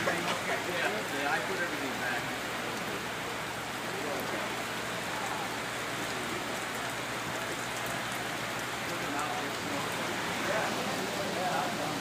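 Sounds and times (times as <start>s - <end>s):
faint ticks of raindrops: 0.0s - 12.0s
rain falling: 0.0s - 12.0s.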